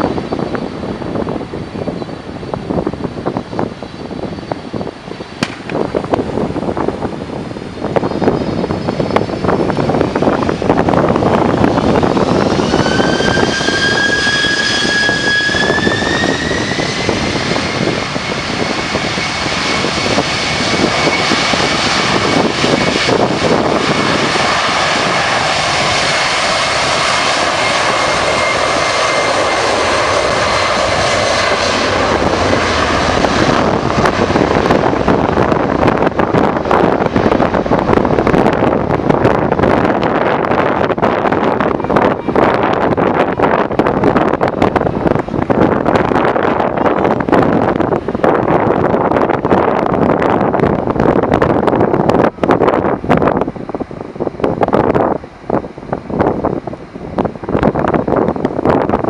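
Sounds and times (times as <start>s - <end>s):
jet engine roar: 0.0s - 59.0s
jet engine whine: 0.0s - 59.0s
wind buffeting microphone: 0.0s - 59.0s.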